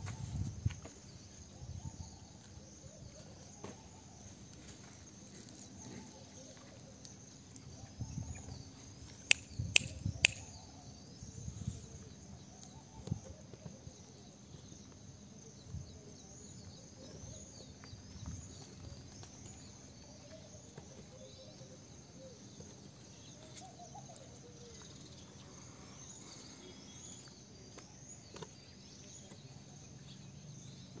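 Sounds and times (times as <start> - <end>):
faint street ambience: 0.0 - 31.0.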